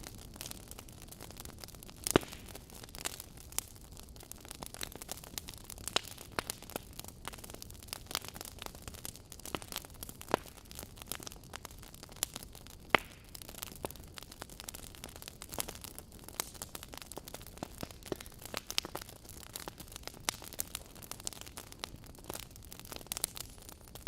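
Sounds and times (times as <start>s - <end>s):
fire crackling in a fireplace: 0.0s - 24.0s.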